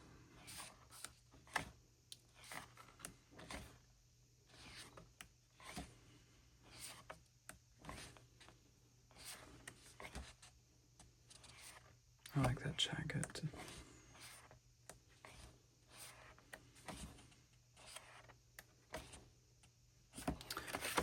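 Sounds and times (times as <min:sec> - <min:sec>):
book pages being turned: 0:00.4 - 0:03.9, 0:04.5 - 0:06.0, 0:06.6 - 0:07.2, 0:07.8 - 0:12.6, 0:13.5 - 0:19.2, 0:20.1 - 0:21.0.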